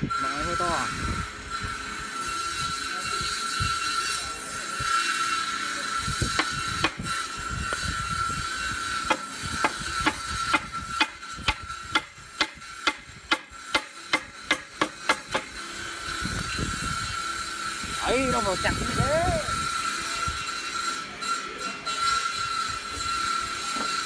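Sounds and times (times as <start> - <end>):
high-pitched hum: 0.0 - 24.0.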